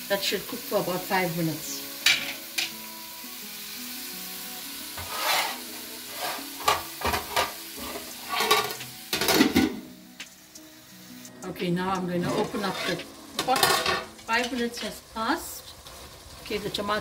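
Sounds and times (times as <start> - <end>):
soft background music: 0.0 - 17.0
sizzling and scraping in pot: 0.1 - 17.0.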